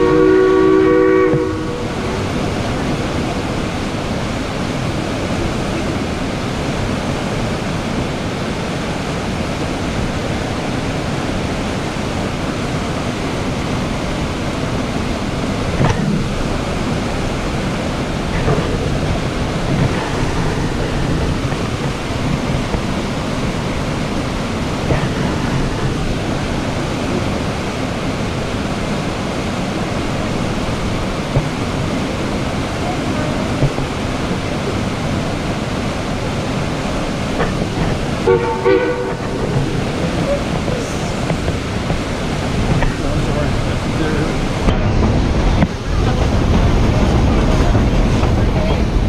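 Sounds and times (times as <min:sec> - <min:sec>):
train cars rumbling on rails: 0:00.0 - 0:49.0
wind: 0:00.0 - 0:49.0.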